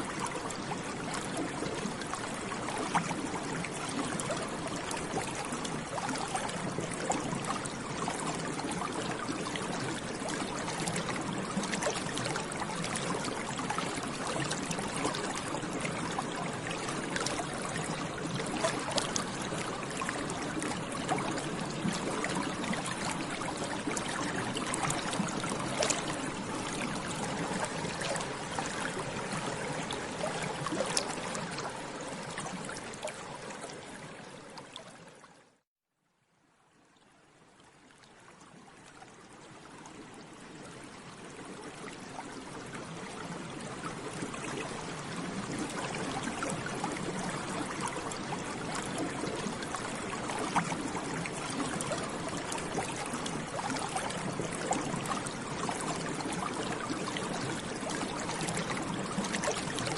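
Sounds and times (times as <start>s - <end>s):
water bubbling and gurgling: 0.0s - 35.6s, 36.8s - 59.9s.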